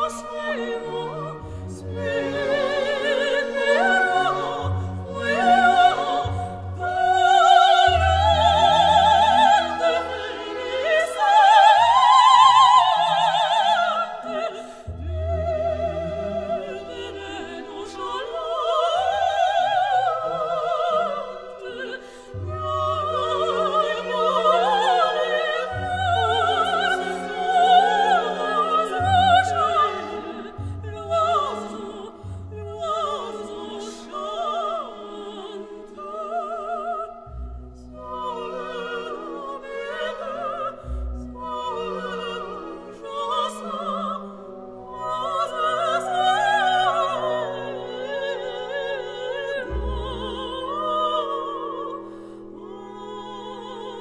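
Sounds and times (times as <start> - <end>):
orchestral accompaniment: 0.0 - 54.0.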